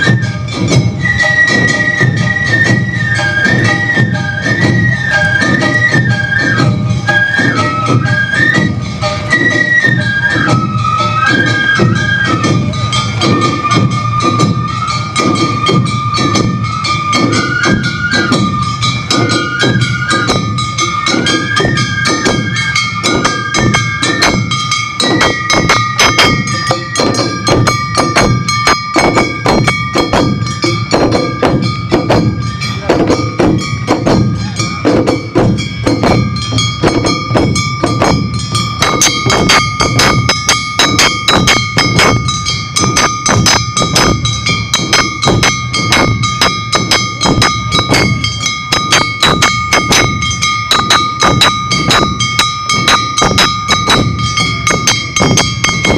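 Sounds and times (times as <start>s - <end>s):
drums beating: 0.0s - 55.9s
flute melody: 0.0s - 55.9s
ringing metal gong: 11.0s - 55.9s.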